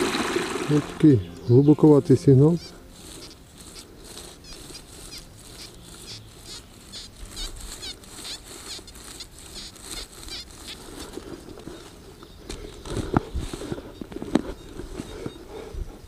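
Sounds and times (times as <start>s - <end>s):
metal detector coil rustling leaves: 0.0s - 15.6s.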